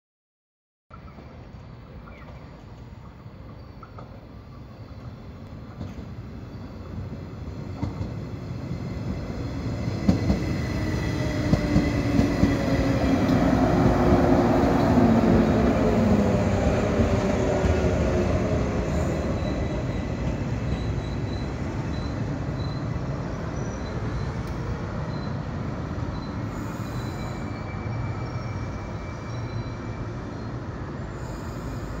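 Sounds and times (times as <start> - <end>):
train wheels rumbling on rails: 2.1 - 32.0.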